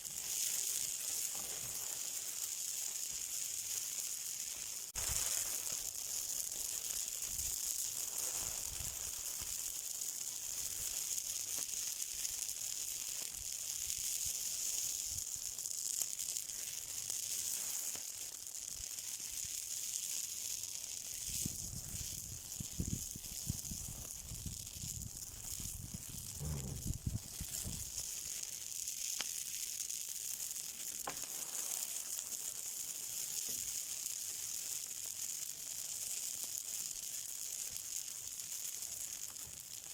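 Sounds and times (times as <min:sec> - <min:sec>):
crackles and pops: 0:00.0 - 0:39.9
fire hissing: 0:00.0 - 0:39.9.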